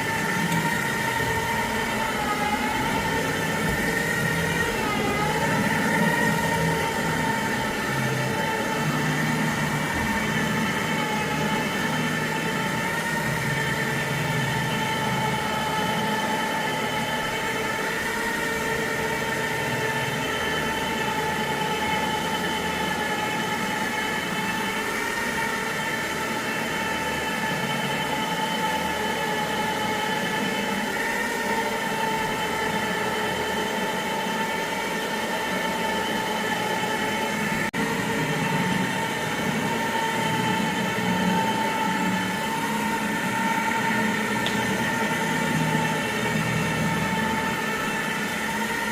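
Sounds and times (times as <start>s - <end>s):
carpet cleaning machine whine: 0.0s - 48.9s.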